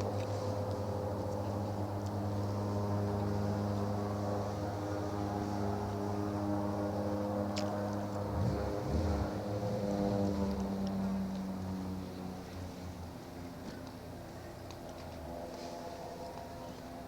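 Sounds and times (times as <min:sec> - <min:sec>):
deep droning hum in the sky: 0:00.0 - 0:17.0.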